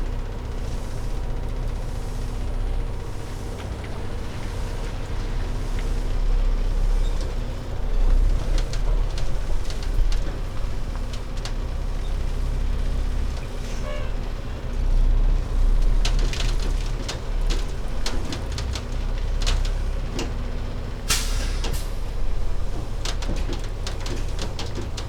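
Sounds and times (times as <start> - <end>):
diesel truck engine rumbling: 0.0 - 25.0.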